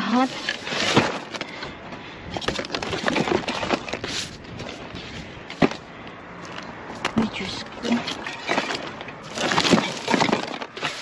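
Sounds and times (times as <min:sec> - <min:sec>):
cardboard and plastic packaging rustling: 0:00.0 - 0:11.0.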